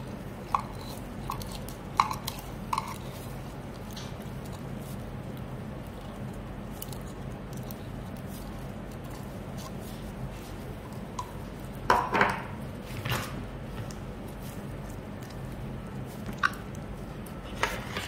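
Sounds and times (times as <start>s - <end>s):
sticky slime squishing: 0.0s - 18.0s.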